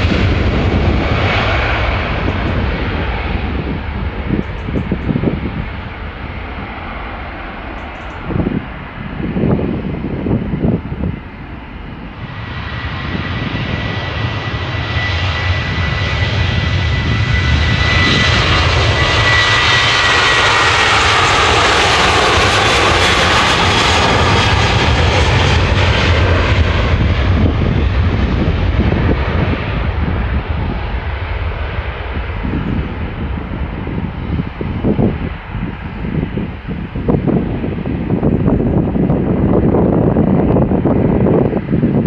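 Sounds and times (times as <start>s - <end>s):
jet engines at take-off power: 0.0s - 42.0s.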